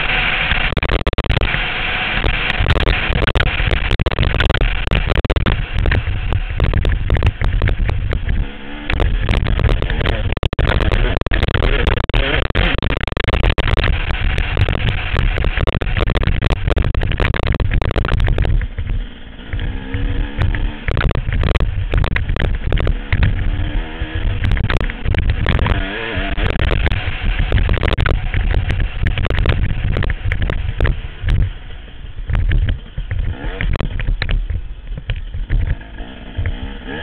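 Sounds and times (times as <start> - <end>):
motorbike engine revving: 0.0 - 37.0
wind rumble on microphone: 0.0 - 37.0.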